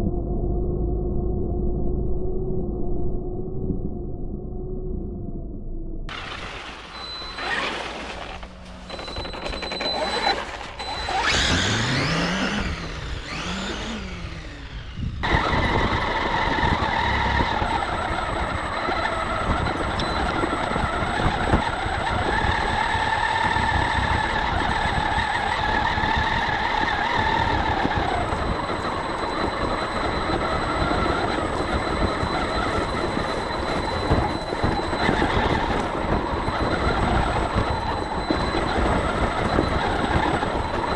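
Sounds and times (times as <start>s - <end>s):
electric motor whining: 6.1s - 40.9s.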